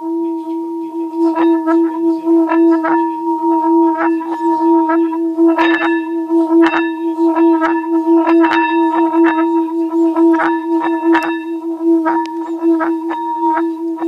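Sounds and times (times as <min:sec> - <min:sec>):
singing bowl ringing hum: 0:00.0 - 0:14.0.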